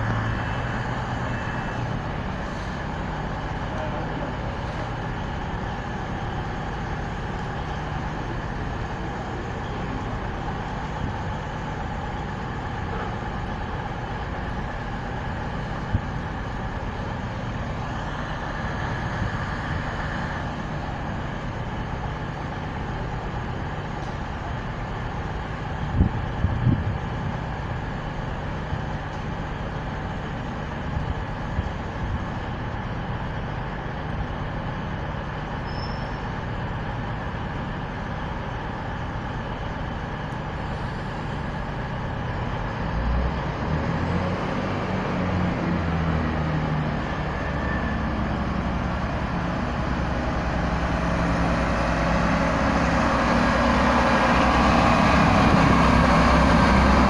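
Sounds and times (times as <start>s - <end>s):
diesel train engines idling: 0.0s - 57.0s.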